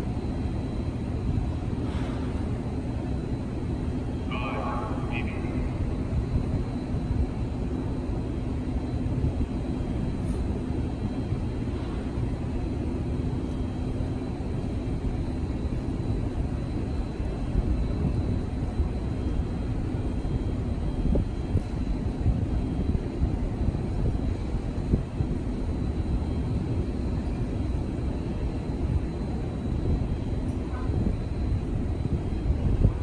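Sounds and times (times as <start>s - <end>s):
faint steady hum: 0.0s - 33.0s
low outdoor rumble: 0.0s - 33.0s.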